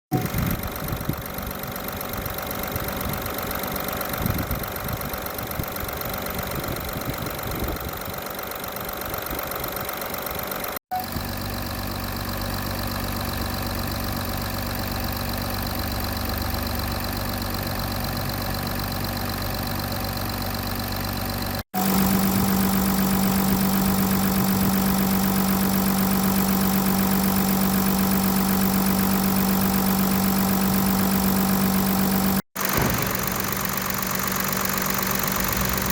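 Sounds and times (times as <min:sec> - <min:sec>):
diesel engine idling: 0:00.1 - 0:35.9.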